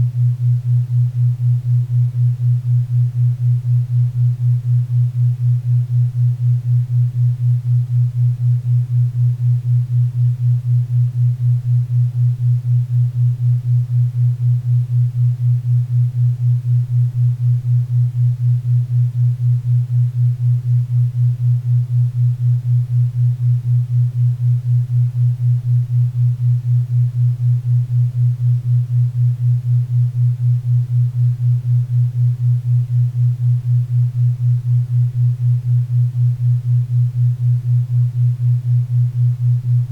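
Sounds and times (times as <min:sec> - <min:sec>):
low throbbing hum tone: 0:00.0 - 0:39.9.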